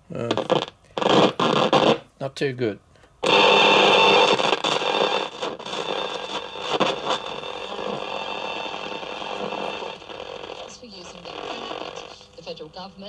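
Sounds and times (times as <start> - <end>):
radio static hiss: 0.1 - 2.1, 3.2 - 13.0
radio knob crackles: 0.2 - 2.1, 3.2 - 12.6.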